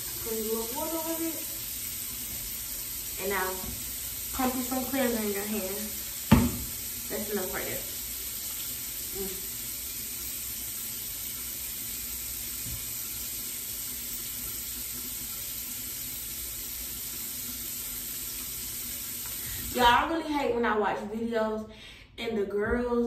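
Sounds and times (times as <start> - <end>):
tap water running into basin: 0.0 - 20.0.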